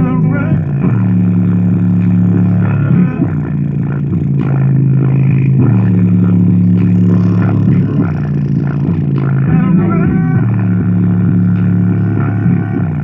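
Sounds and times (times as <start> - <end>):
bass-heavy music on subwoofer: 0.0 - 13.0.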